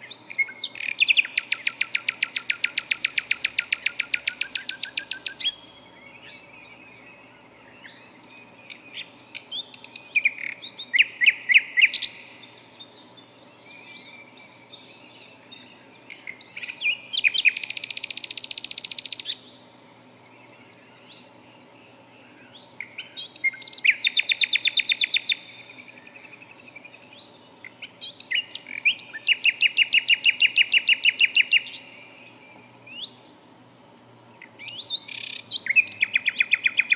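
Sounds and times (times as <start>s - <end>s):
bird chirps: 0.0s - 33.3s, 34.4s - 36.9s
songbird trill: 0.0s - 36.9s.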